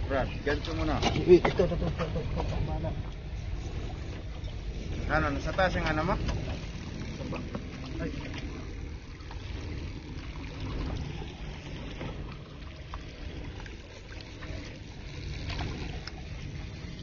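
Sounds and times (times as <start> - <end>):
water washing at shoreline: 0.0 - 17.0
wind: 0.0 - 17.0.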